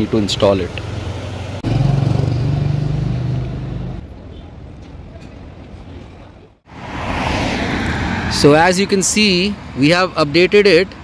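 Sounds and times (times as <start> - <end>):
vehicle engine humming: 0.0 - 9.9.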